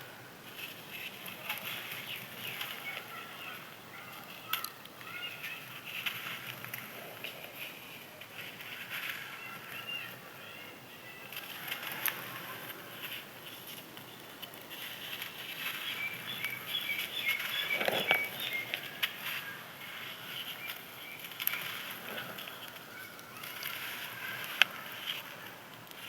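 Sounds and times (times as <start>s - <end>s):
dried sand crackling and crunching: 0.4s - 26.0s
birds chirping: 0.9s - 25.9s.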